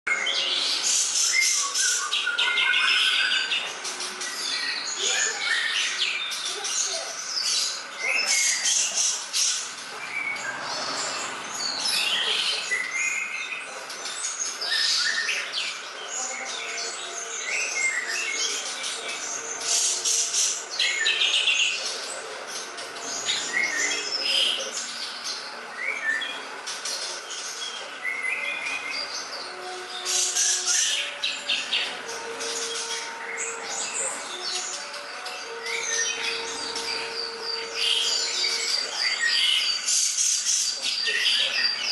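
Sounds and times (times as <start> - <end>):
songbird chirps and trills: 0.1 - 41.9.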